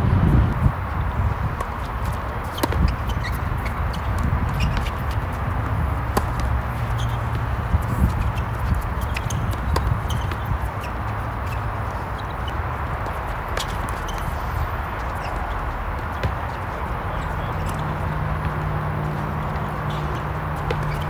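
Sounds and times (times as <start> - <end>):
tennis balls hit and bouncing: 0.9 - 21.0.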